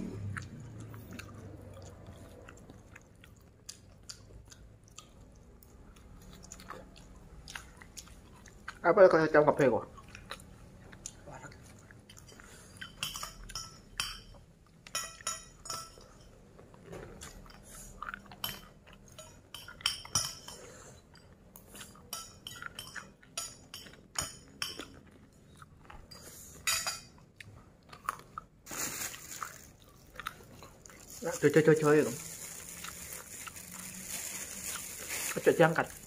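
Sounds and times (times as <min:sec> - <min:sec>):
chewing and crunching: 0:00.1 - 0:13.6, 0:16.0 - 0:19.8, 0:20.5 - 0:36.0.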